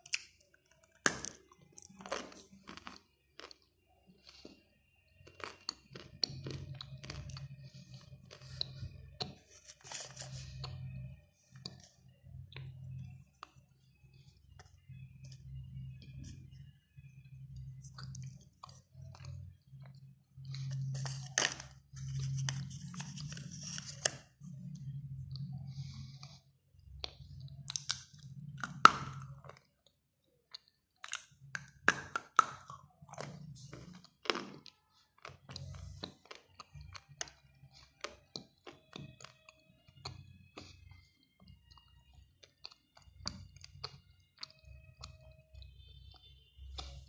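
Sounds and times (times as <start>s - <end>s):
clay crunching and crackling: 0.0s - 45.8s.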